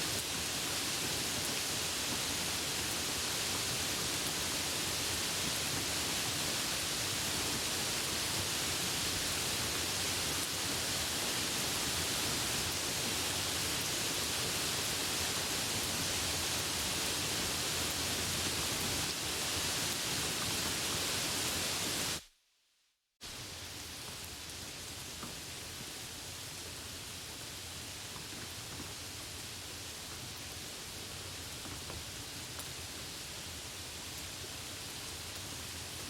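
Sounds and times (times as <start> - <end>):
steady rain hiss: 0.0 - 22.3, 23.2 - 36.0.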